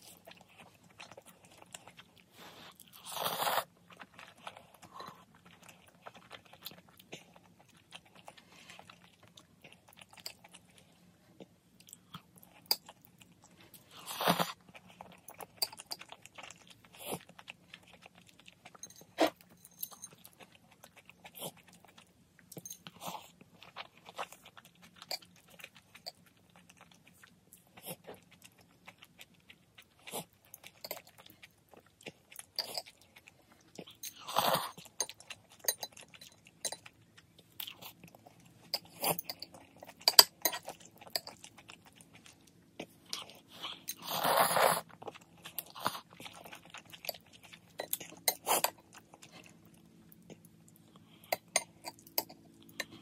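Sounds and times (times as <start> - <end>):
chewing and slurping noodles: 0.0 - 53.0.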